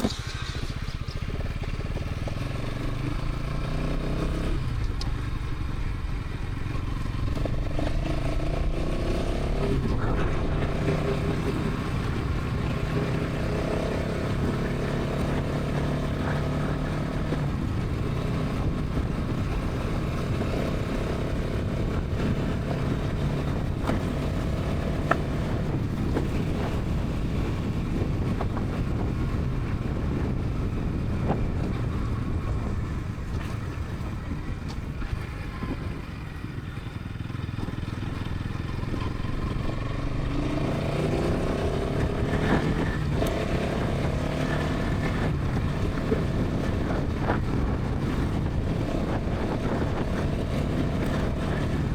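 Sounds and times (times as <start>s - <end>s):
motorcycle engine at speed: 0.0s - 51.9s
wind rushing over microphone: 0.0s - 51.9s.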